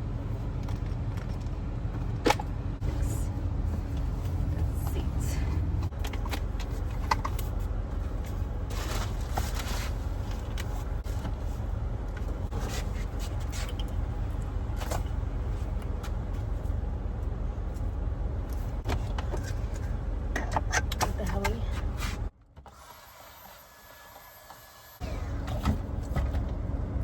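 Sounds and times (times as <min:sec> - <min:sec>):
steady low rumble: 0:00.0 - 0:22.3.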